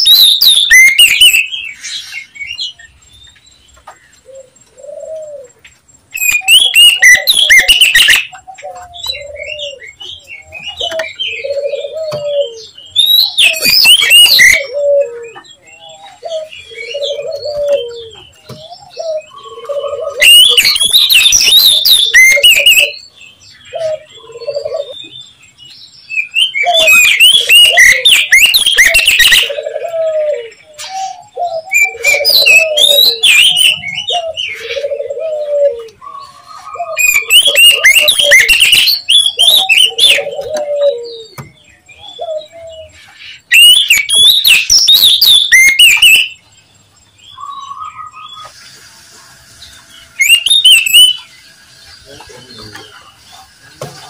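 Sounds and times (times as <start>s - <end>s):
bird song whistles and chatter: 0.0s - 3.0s, 6.2s - 29.7s, 30.5s - 35.0s, 35.8s - 46.5s, 47.3s - 54.0s.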